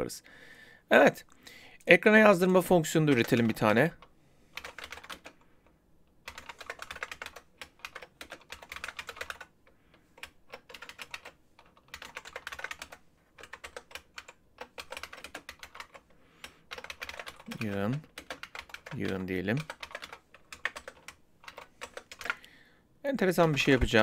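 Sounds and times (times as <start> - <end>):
computer keyboard typing: 2.8 - 5.5, 6.2 - 22.5, 23.2 - 24.0.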